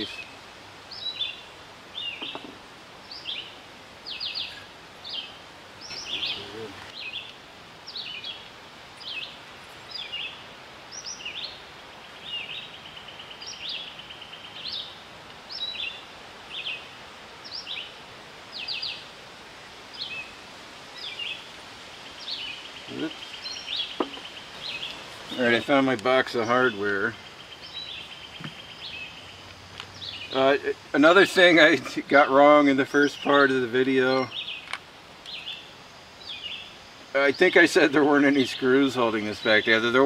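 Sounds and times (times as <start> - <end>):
outdoor background hiss: 0.0 - 40.0
songbird singing: 0.0 - 40.0.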